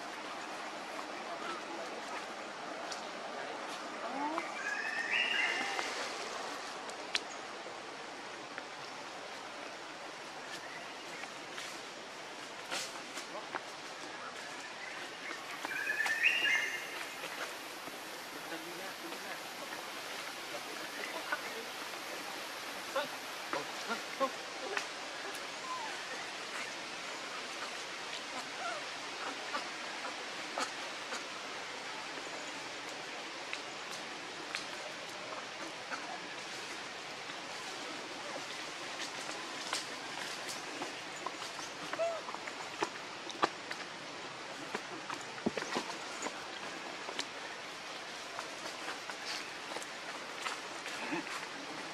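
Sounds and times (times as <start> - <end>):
steady outdoor hiss: 0.0 - 51.9.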